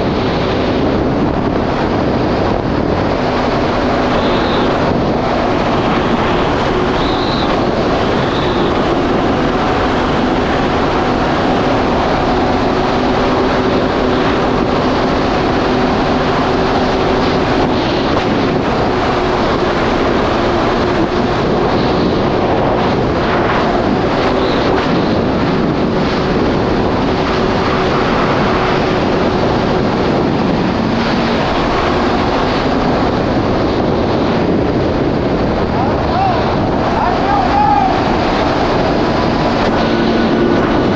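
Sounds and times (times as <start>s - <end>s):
jet ski engine running: 0.0s - 40.9s
water rushing: 0.0s - 40.9s
wind on microphone: 0.0s - 40.9s.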